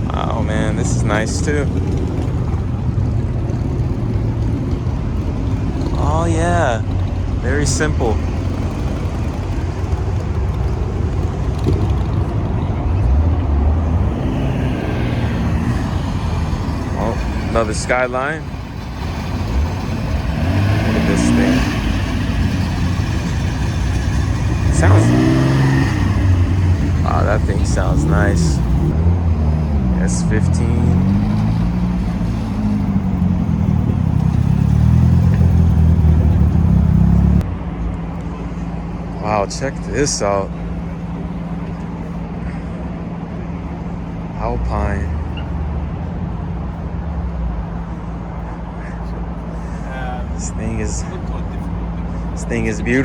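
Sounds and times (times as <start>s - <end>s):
car engines running: 0.0s - 53.0s.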